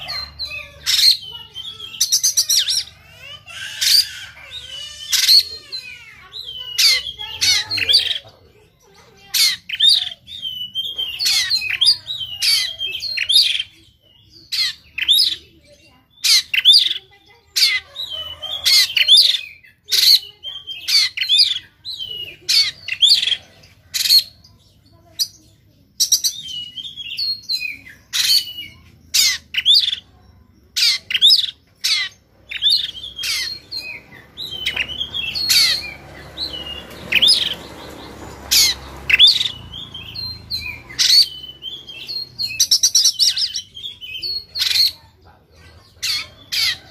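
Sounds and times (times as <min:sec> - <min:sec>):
bird singing harsh sharp notes: 0:00.0 - 0:46.9.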